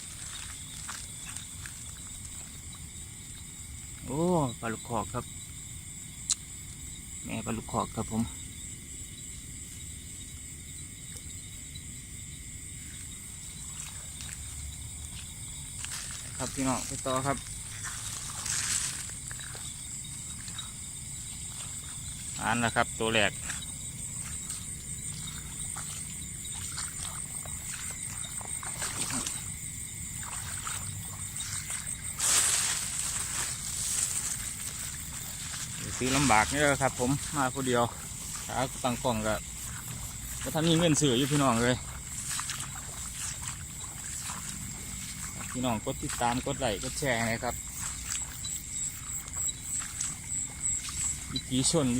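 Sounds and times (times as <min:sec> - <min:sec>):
water splashing: 0:00.0 - 0:04.1, 0:12.8 - 0:51.9
crickets and insects buzzing: 0:00.0 - 0:51.9.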